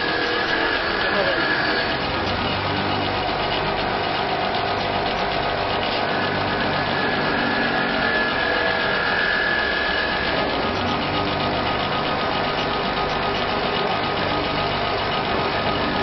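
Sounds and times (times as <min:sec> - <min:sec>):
laser engraver hum and buzz: 0:00.0 - 0:16.0
thin high whine: 0:00.0 - 0:16.0.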